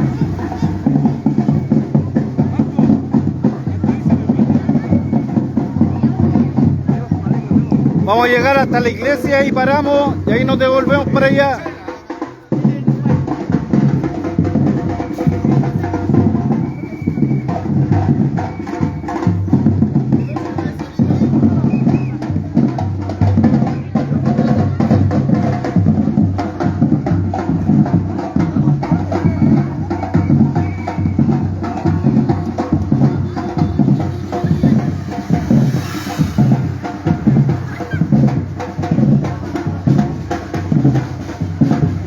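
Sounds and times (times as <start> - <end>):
deep bass drums: 0.0 - 42.0
drum group playing: 0.0 - 42.0.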